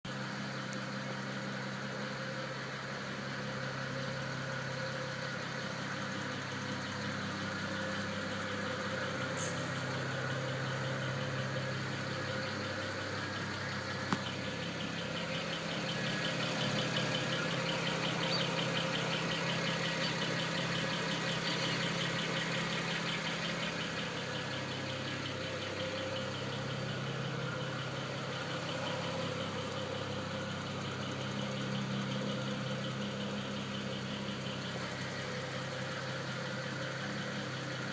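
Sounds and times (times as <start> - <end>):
car engine idling: 0.0 - 37.9
fast regular engine ticking: 0.0 - 37.9.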